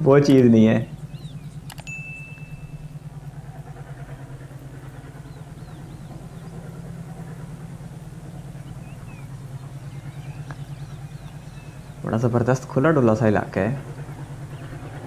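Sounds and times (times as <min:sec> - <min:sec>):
distant diesel locomotives throbbing: 0:00.0 - 0:15.0.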